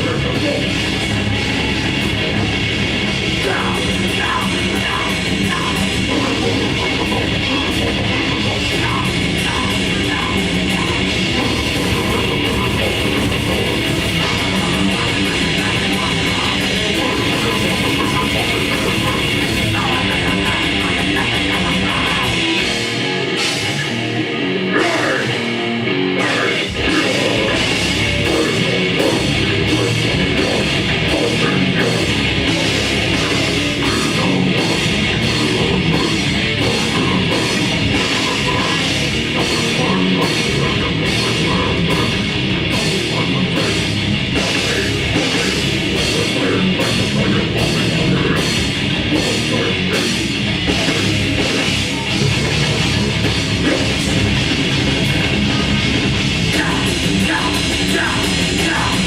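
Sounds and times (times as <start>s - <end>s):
bass: 0.0s - 59.0s
distorted guitar: 0.0s - 59.0s
drums: 0.0s - 59.0s.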